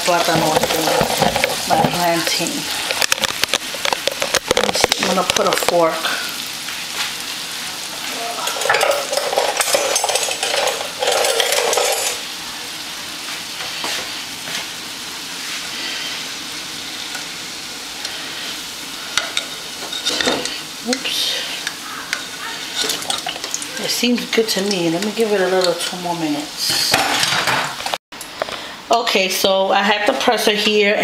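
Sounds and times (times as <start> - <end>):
plantain deep-frying in oil: 0.0 - 28.4.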